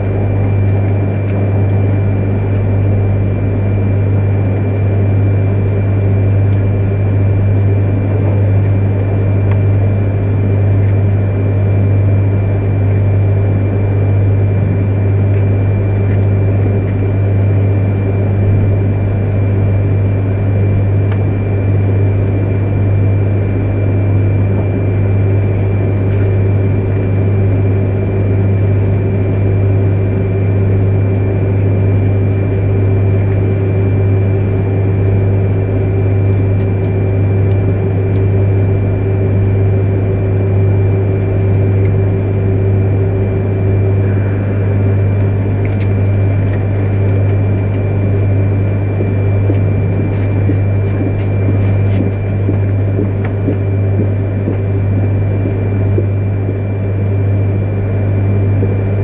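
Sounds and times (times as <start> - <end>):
high steady whine: 0.0 - 59.0.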